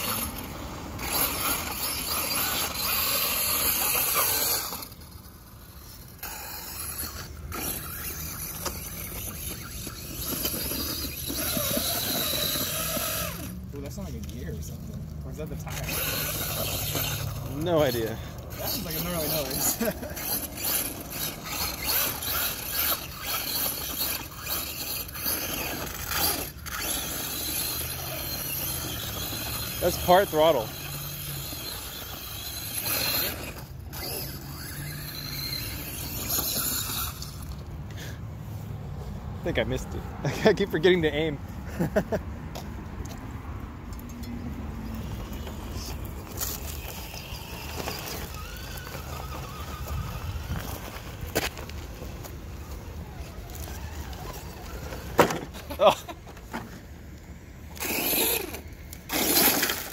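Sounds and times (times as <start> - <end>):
rc truck motor driving: 0.0 - 43.3, 43.9 - 59.9.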